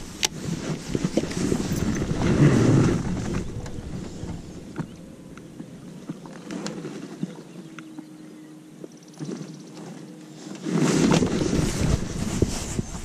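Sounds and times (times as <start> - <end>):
wind on microphone: 0.0 - 8.0, 9.2 - 13.0.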